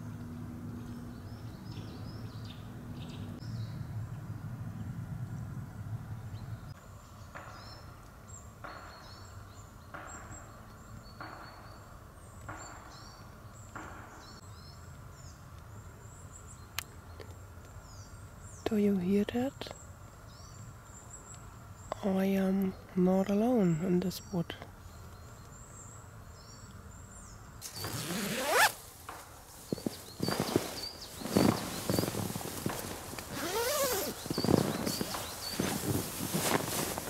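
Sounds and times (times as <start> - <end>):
small birds chirping: 0.0 - 3.9, 6.3 - 37.0.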